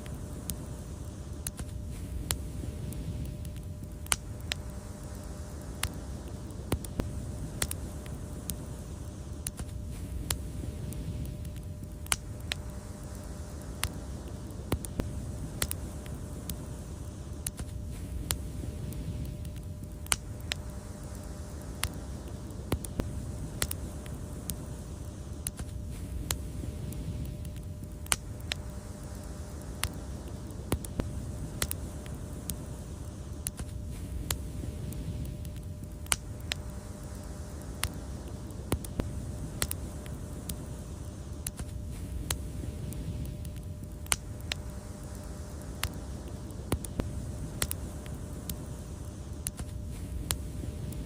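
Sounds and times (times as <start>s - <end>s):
low rumble of fire: 0.0s - 51.0s
wood fire crackling: 0.0s - 51.0s.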